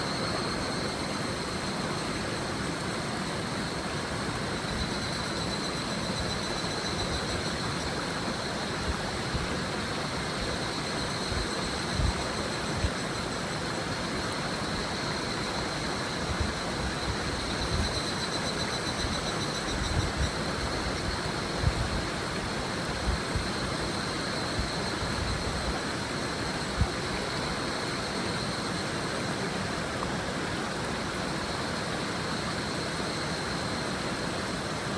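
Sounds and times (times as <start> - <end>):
cicadas calling: 0.0 - 34.9.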